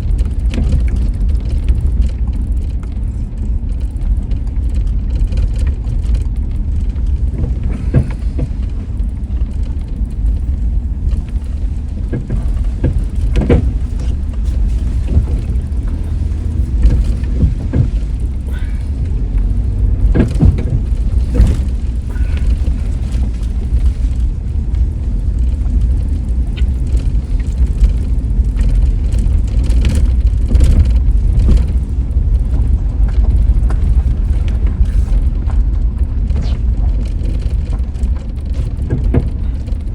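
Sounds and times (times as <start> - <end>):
road rumble: 0.0 - 39.9
knocks and clatters: 0.1 - 39.9.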